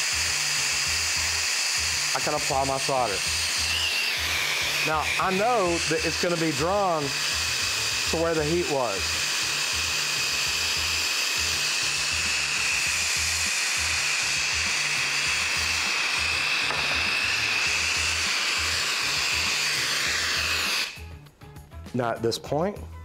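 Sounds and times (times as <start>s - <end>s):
torch flame hissing: 0.0s - 21.1s.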